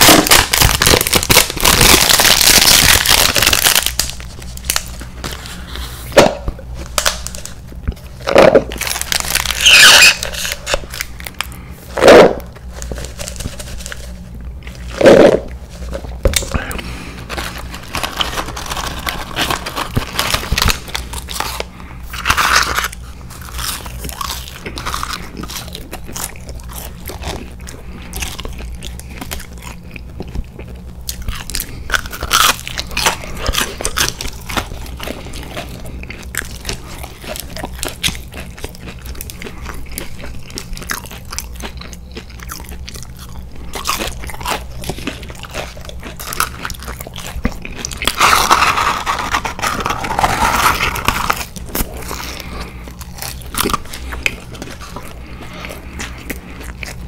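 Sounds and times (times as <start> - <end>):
person chewing: 0.0 - 57.0
loud crunchy bites: 8.2 - 14.0, 16.3 - 57.0.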